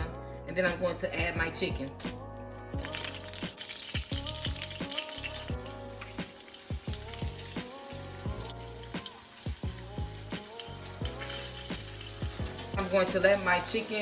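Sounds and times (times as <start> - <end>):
background music with beat: 0.0 - 14.0
chicken frying in oil: 2.8 - 14.0.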